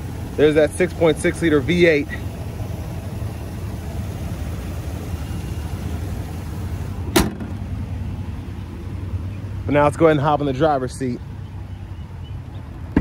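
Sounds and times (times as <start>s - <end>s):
van engine idling: 0.0s - 13.0s.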